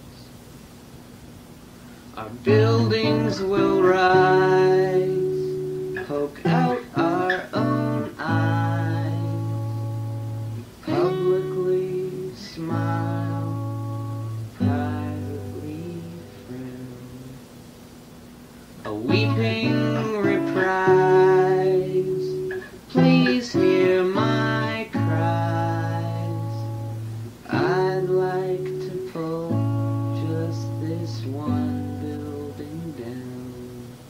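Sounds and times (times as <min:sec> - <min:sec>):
acoustic guitar strumming: 0:02.2 - 0:17.5, 0:18.8 - 0:34.0.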